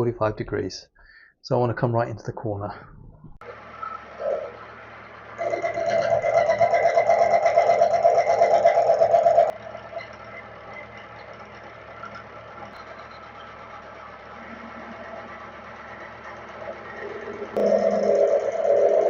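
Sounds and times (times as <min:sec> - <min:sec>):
milling machine cutting metal: 0:03.5 - 0:19.0.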